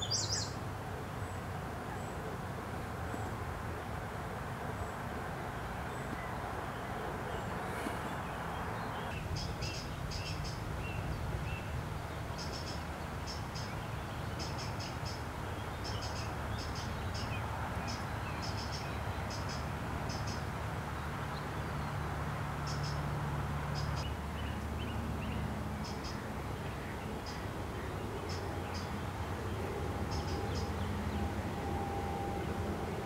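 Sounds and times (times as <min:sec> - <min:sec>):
outdoor background hiss and rumble: 0:00.0 - 0:33.0.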